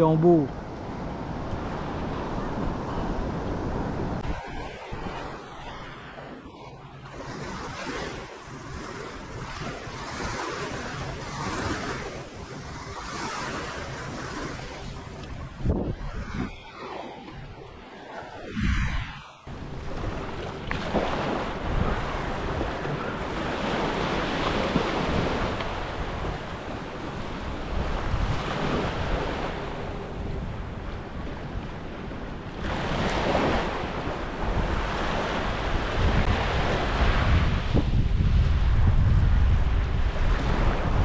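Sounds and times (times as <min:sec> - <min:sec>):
wind buffeting microphone: 0:00.5 - 0:41.0
small waves washing on sand: 0:01.2 - 0:18.4, 0:19.5 - 0:41.0.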